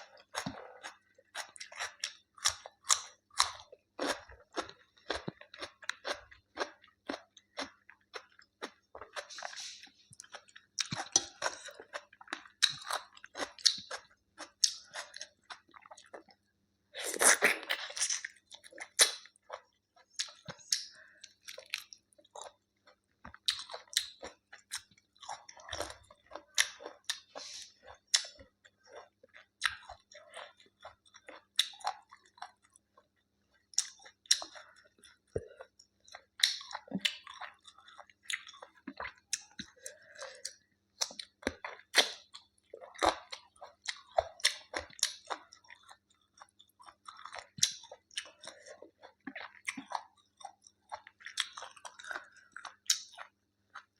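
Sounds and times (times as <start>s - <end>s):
person chewing and crunching: 0.0s - 53.9s.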